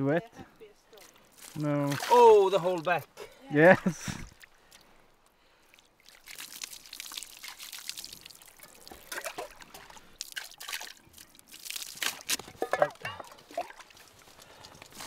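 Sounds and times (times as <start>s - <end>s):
water trickling and splashing: 0.4s - 15.0s
small splashes: 1.0s - 2.9s, 4.2s - 15.0s.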